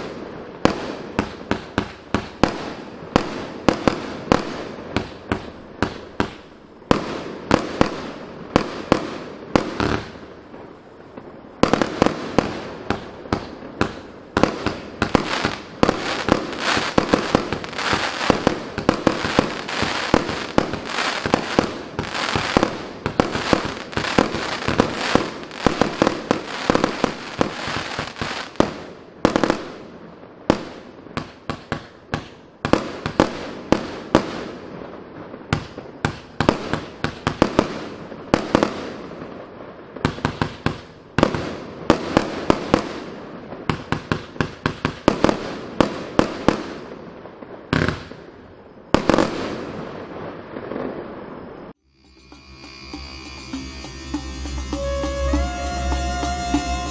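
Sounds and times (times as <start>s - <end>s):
crackling star bursts: 0.0s - 56.9s.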